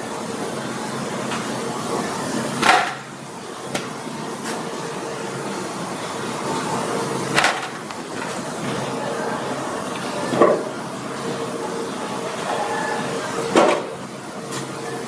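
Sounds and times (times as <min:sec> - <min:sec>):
work room hum: 0:00.0 - 0:15.0.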